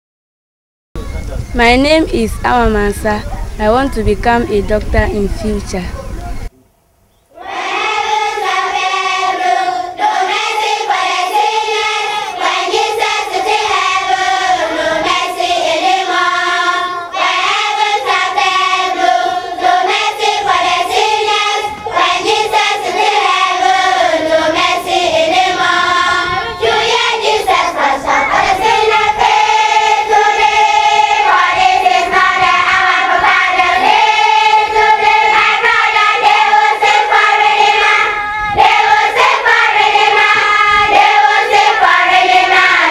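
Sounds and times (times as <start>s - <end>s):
children's choir singing: 7.3s - 42.9s.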